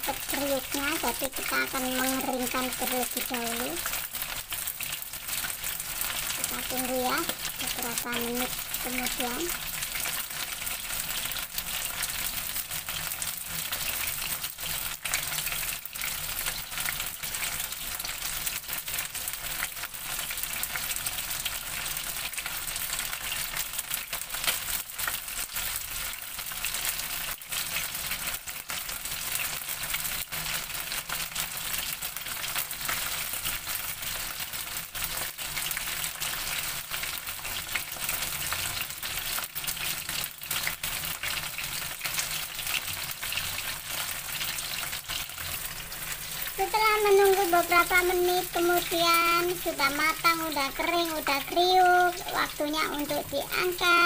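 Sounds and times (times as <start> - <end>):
deep-frying sizzle with crackling pops: 0.0 - 54.0.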